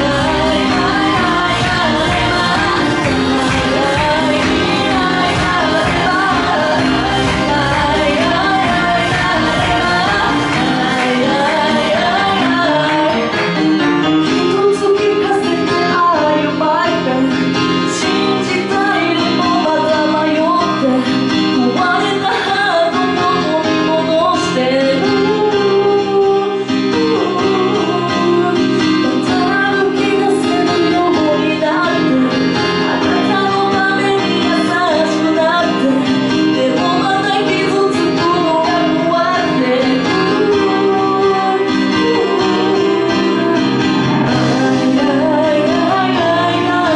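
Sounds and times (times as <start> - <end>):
instrumental backing with guitar: 0.0 - 46.9
woman singing into microphone: 0.0 - 46.9.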